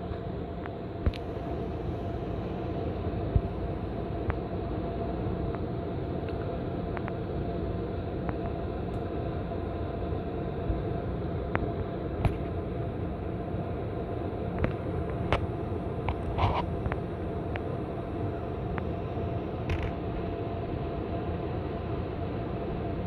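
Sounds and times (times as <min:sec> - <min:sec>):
air conditioner drone: 0:00.0 - 0:23.0.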